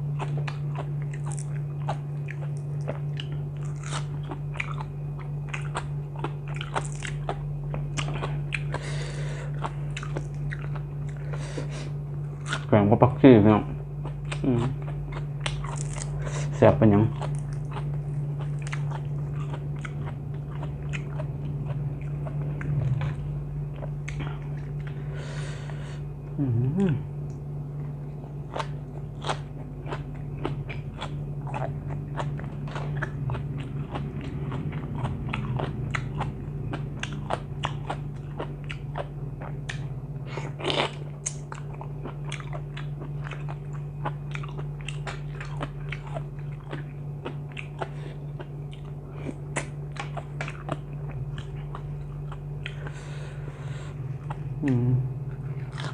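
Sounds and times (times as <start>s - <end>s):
person chewing crunchy food: 0.0s - 12.9s, 14.0s - 55.9s
steady low hum: 0.0s - 55.9s.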